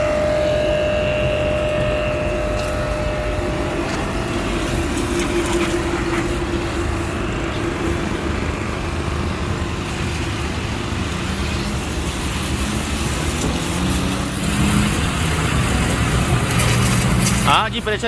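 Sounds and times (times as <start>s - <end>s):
pressure washer running: 0.0s - 18.0s
water jet spraying: 0.0s - 18.0s.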